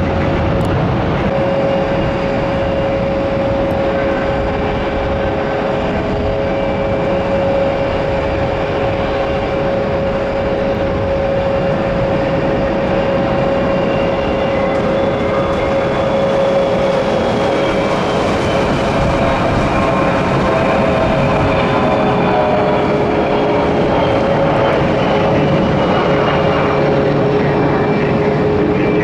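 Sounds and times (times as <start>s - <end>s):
jet engine whine: 0.0s - 29.0s
jet engines roaring: 0.0s - 29.0s.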